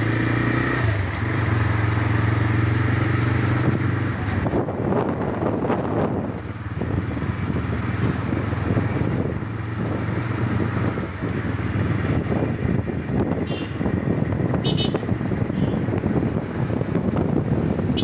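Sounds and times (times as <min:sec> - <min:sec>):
motorcycle engine running: 0:00.0 - 0:18.0
wind buffeting microphone: 0:02.9 - 0:18.0.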